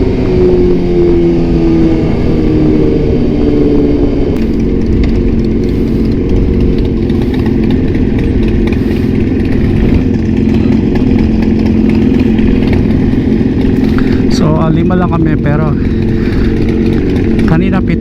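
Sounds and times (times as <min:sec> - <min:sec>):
motorcycle engine at steady revs: 0:00.0 - 0:18.0.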